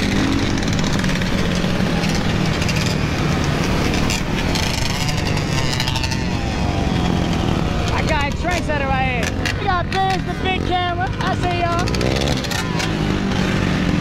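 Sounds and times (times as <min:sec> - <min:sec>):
atv and dirt bike engines running: 0:00.0 - 0:14.0.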